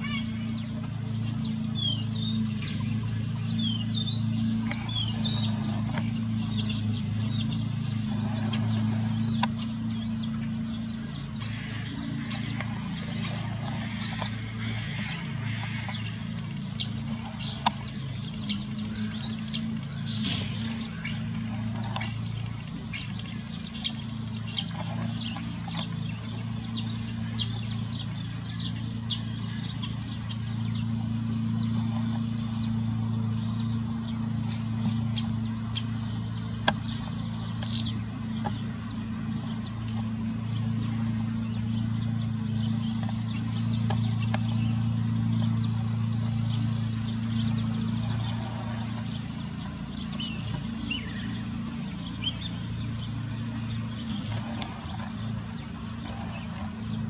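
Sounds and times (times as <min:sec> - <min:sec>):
starling singing: 0:00.0 - 0:57.0
steady low hum: 0:00.0 - 0:57.0.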